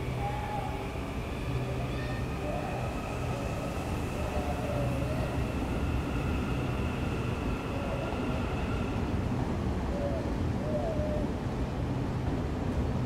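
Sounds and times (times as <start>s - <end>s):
electric train high whine: 0.0s - 12.9s
wheels rumbling on rails: 0.0s - 13.0s.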